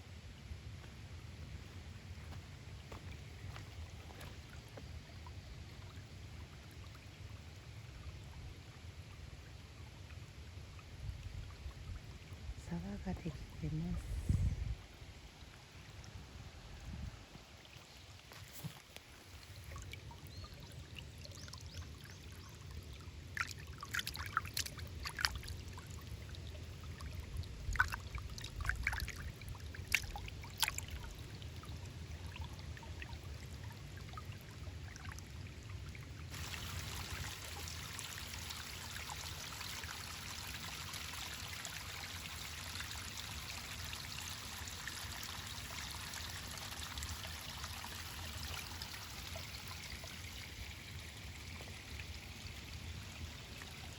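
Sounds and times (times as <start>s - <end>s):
stream trickling and flowing: 0.0s - 53.9s.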